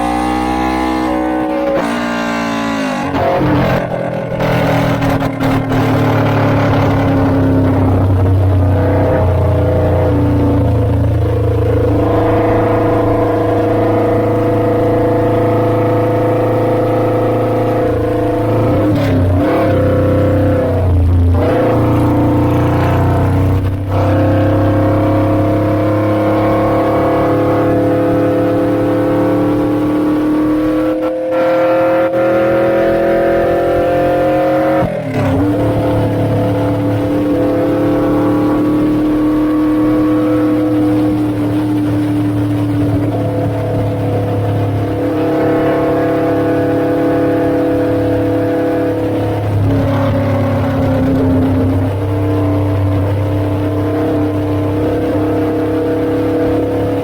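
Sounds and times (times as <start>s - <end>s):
motorcycle engine changing gears: 0.0s - 57.0s.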